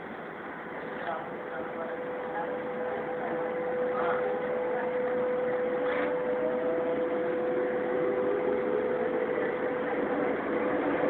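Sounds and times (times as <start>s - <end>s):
metro train rumbling: 0.0s - 11.0s
faint rising whine: 1.4s - 11.0s.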